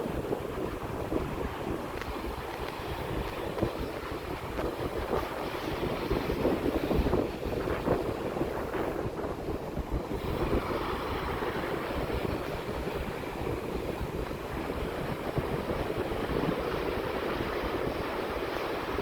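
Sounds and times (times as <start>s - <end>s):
sea waves washing in: 0.0s - 19.0s
wind buffeting microphone: 0.0s - 19.0s.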